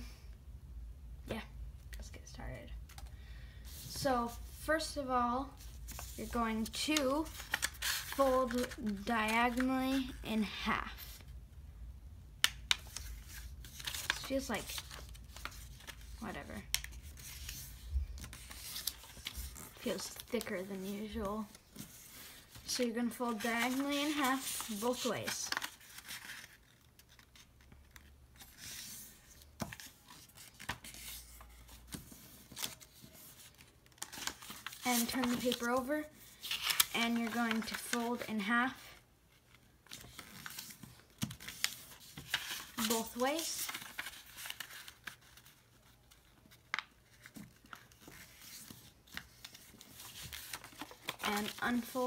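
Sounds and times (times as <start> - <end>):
paper rustling and creasing: 5.4 - 11.3, 12.7 - 52.0
paper crackles: 5.5 - 10.2, 12.5 - 52.0.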